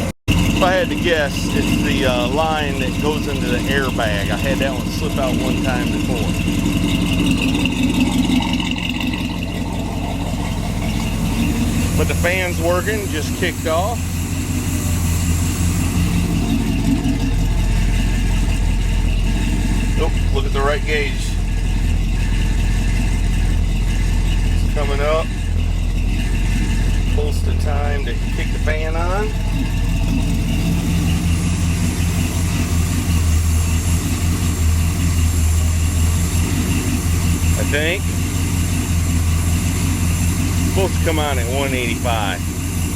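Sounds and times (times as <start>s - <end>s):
pickup engine idling: 0.0s - 42.9s.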